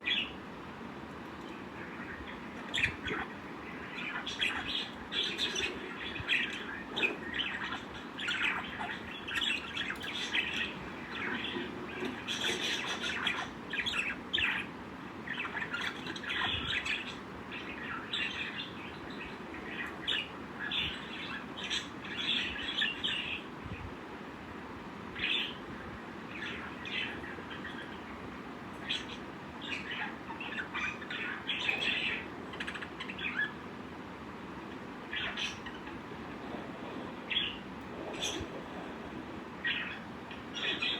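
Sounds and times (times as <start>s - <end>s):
lovebirds chirping: 1.3s - 23.6s, 25.1s - 33.8s, 34.9s - 40.9s.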